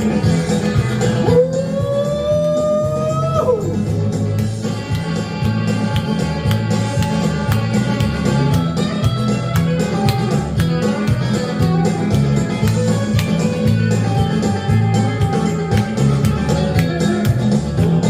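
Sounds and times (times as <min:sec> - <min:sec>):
picked lead guitar notes: 0:00.0 - 0:18.0
rhythmic bass line: 0:00.0 - 0:18.0.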